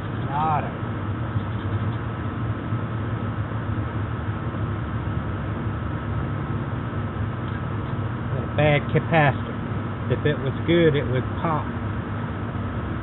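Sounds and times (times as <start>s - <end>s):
low hum: 0.0s - 13.0s
rushing background noise: 0.0s - 13.0s.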